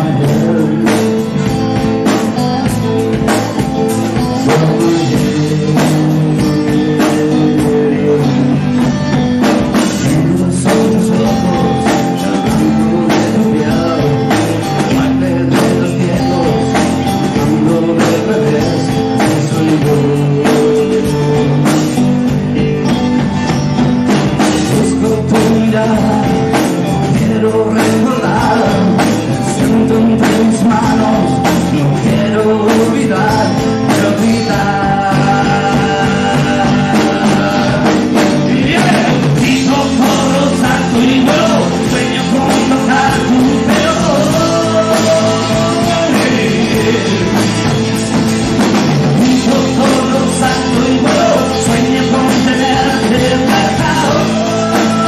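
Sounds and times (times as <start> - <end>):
song with singing and beat: 0.0 - 55.0.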